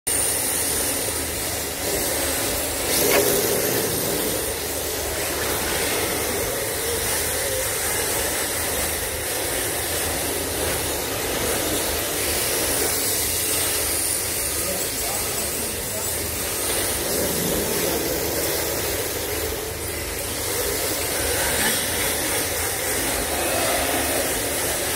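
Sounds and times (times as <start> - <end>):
toy car tyres sliding on tiles: 0.1 - 24.9.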